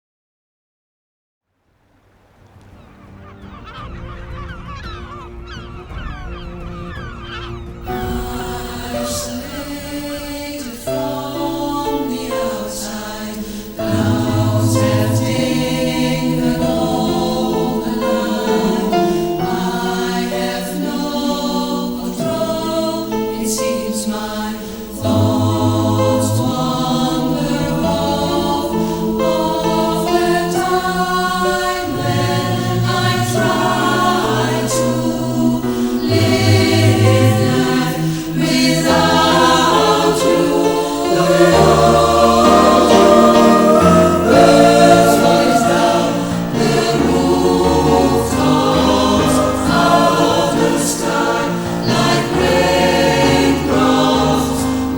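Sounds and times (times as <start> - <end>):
choir singing sustained chords: 2.1 - 54.9.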